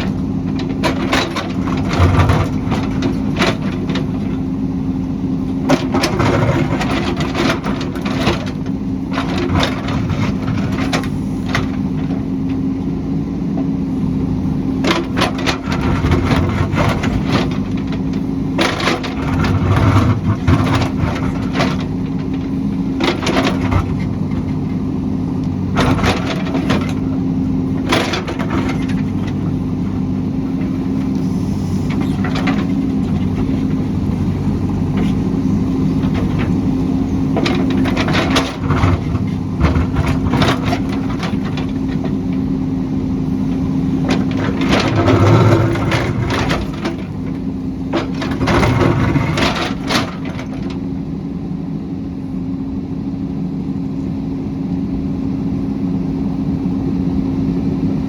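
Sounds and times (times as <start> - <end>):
heavy machine engine running: 0.0 - 58.0.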